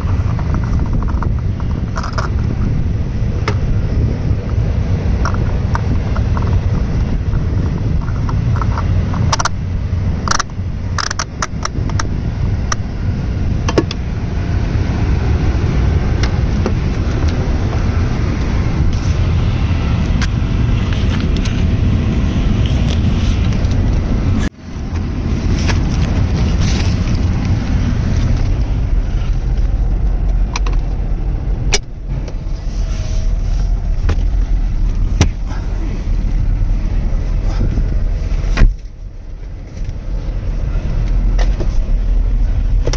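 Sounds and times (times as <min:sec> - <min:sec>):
car engine running: 0:00.0 - 0:42.9.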